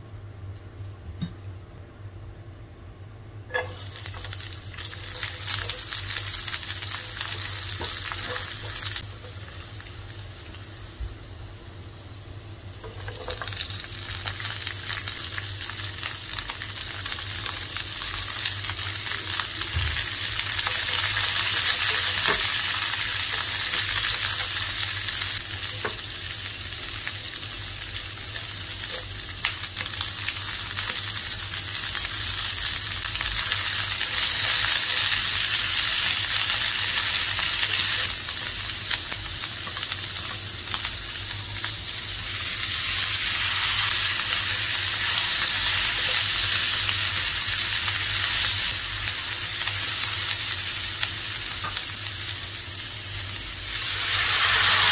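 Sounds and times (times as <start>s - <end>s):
food sizzling in hot oil: 3.5s - 54.9s.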